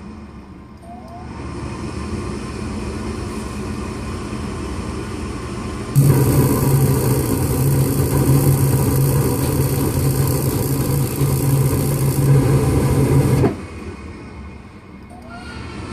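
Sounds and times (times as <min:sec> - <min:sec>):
gas furnace burners humming: 0:00.0 - 0:15.9.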